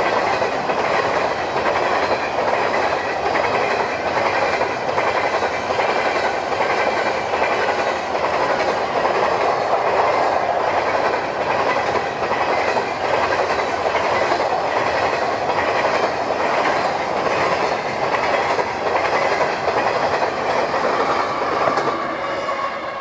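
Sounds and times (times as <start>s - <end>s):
wheels clacking over rail joints: 0.0s - 22.2s
freight train cars rumbling past: 0.0s - 23.0s.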